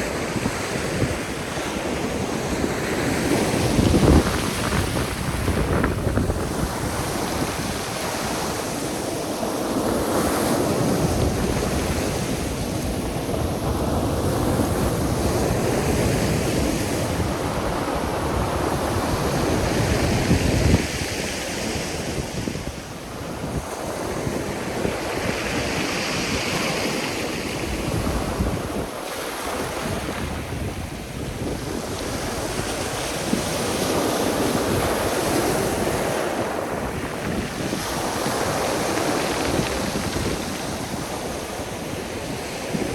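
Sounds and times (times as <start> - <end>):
waves breaking on shore: 0.0 - 42.9
wind buffeting microphone: 0.0 - 42.9.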